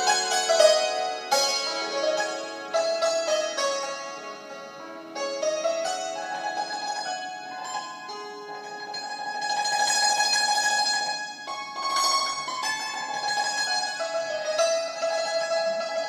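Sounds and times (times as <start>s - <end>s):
hammered dulcimer tremolo: 0.0s - 16.0s.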